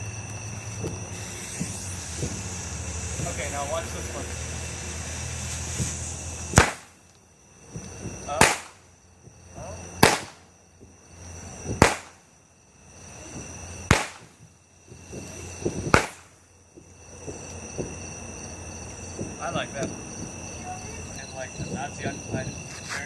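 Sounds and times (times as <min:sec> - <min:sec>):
crickets chirring: 0:00.0 - 0:23.0
firework bangs: 0:00.0 - 0:23.0.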